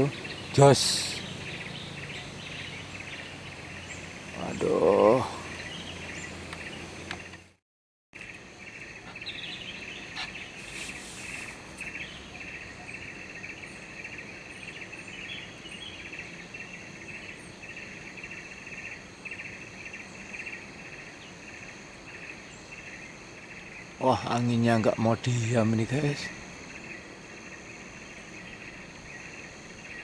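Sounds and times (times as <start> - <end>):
insects buzzing: 0.0 - 7.6, 8.2 - 30.0.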